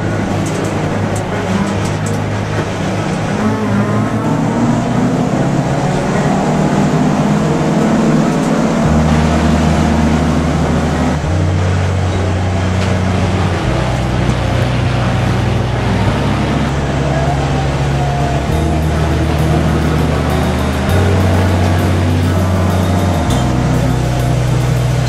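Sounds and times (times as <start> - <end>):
race car engine running hard: 0.0 - 25.0.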